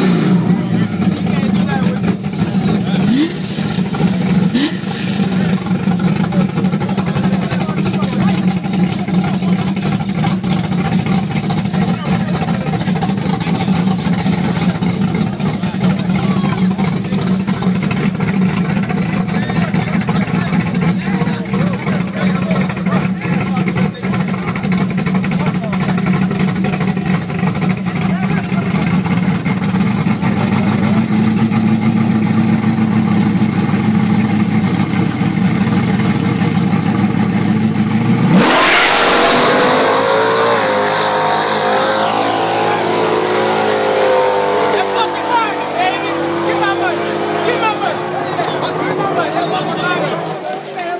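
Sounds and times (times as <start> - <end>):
car engine droning: 0.0 - 50.9.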